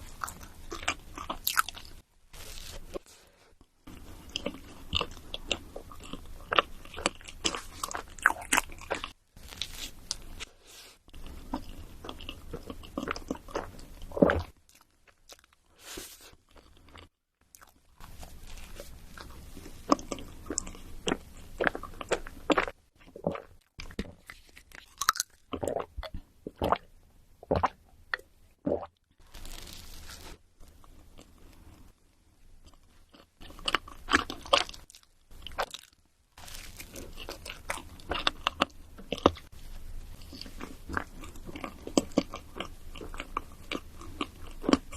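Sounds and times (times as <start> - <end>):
crunchy food being chewed: 0.0 - 26.9, 27.5 - 32.0, 32.6 - 44.9.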